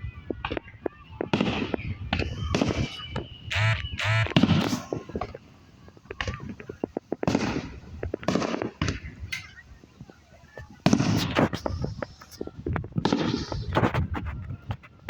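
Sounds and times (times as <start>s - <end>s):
firework crackles: 0.0s - 15.0s
firework bangs: 0.3s - 14.9s.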